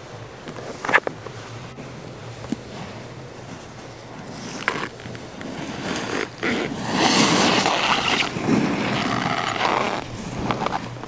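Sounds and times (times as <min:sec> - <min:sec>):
snowboard scraping over snow: 0:00.0 - 0:11.0.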